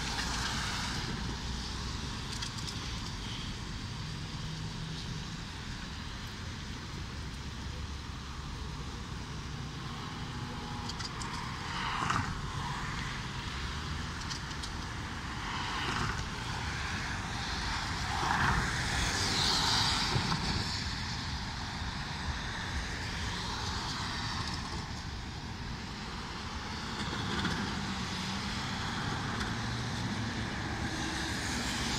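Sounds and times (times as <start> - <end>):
car tyres hissing on wet road: 0.0 - 31.9.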